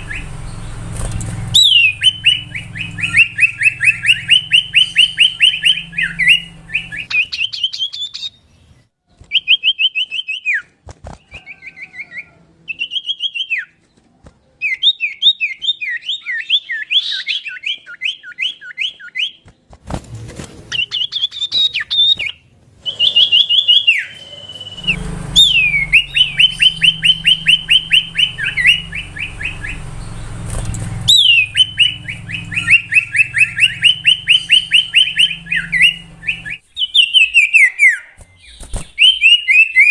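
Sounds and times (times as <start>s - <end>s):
bird whistling song: 0.0s - 8.6s, 9.3s - 13.8s, 14.6s - 19.4s, 20.7s - 39.9s.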